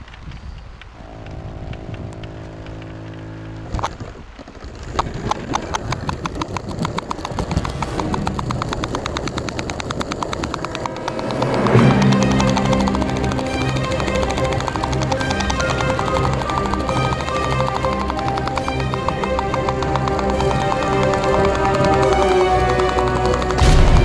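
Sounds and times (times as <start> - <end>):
wheels clicking over rail joints: 0.0 - 24.0
model train motor hum: 4.6 - 24.0.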